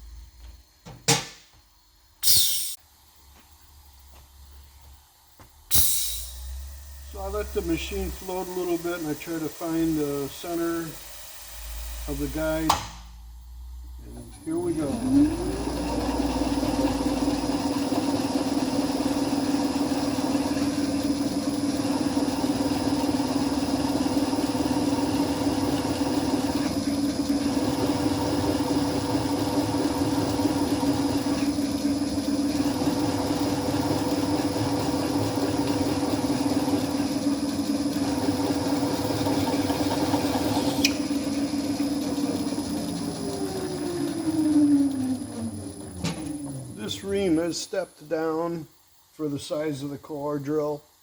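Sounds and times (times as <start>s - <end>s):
motor humming: 1.8s - 49.1s
drill cutting metal: 2.2s - 2.8s, 5.7s - 12.8s, 14.0s - 47.9s.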